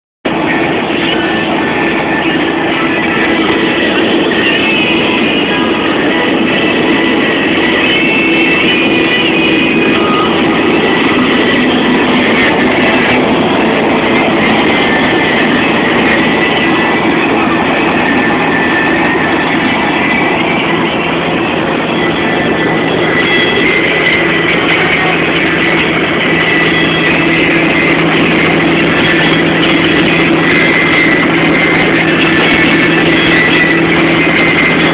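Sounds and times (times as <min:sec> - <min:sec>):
truck engine and road drone: 0:00.2 - 0:34.9.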